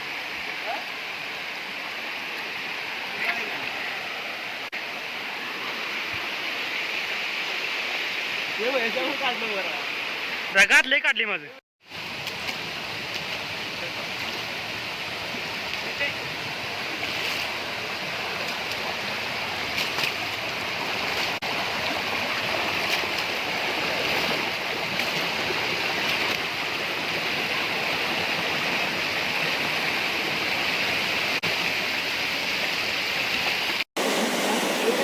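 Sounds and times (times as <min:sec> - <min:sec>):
waterfall rushing: 0:00.0 - 0:10.8, 0:11.9 - 0:35.0.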